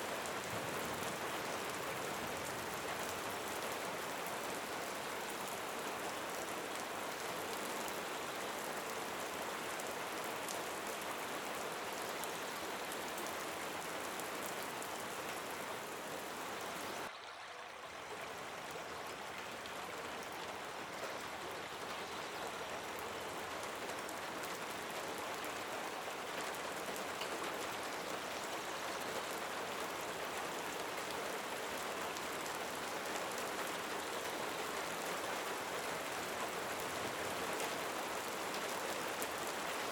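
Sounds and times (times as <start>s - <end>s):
steady rain falling: 0.0s - 17.3s, 17.9s - 39.9s.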